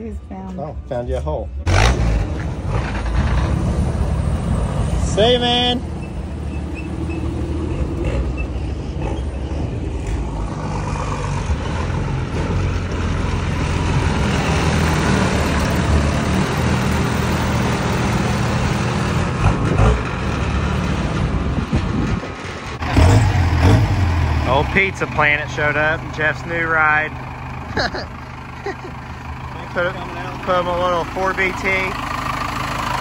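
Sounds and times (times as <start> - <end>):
truck engines rumbling: 0.0 - 33.0.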